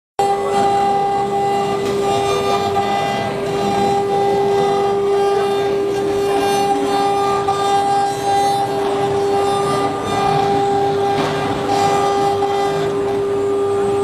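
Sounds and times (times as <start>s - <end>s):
cnc router whining: 0.2s - 14.0s.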